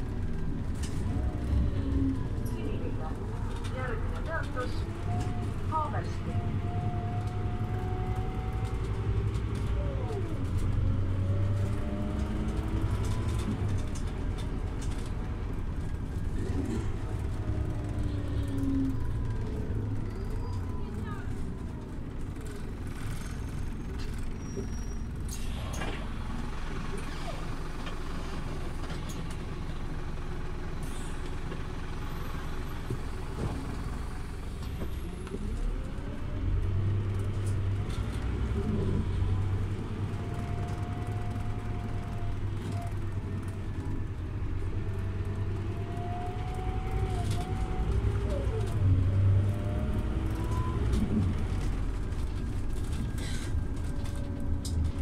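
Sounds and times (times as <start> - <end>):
bus diesel engine drone: 0.0 - 55.0
road noise: 0.0 - 55.0.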